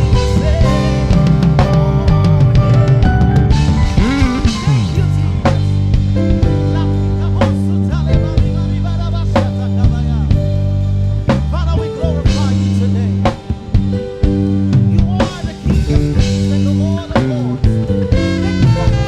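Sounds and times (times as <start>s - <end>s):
band playing instrumental: 0.0s - 19.0s.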